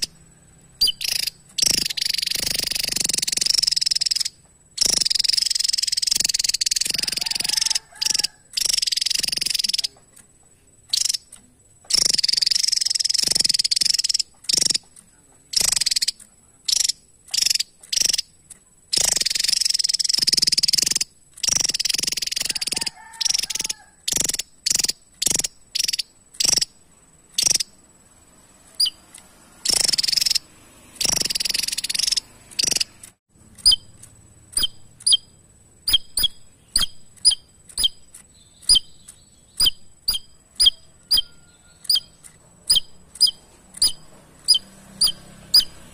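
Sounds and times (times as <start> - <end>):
bird song high and jumbled: 0.0 - 45.9.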